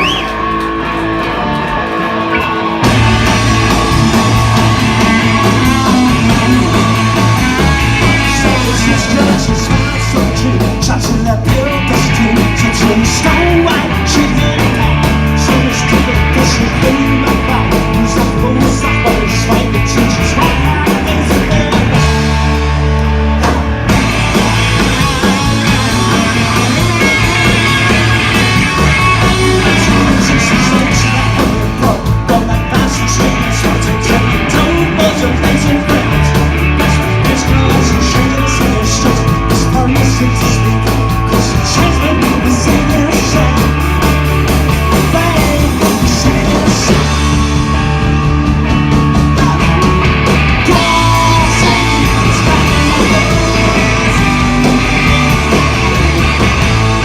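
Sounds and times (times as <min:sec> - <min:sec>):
punk rock band playing loud: 0:00.0 - 0:57.0.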